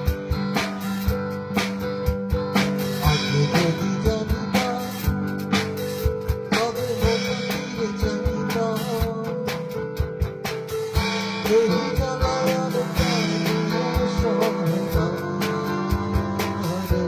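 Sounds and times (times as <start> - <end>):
drum kit steady beat: 0.0 - 17.0
rock guitar: 0.0 - 17.0.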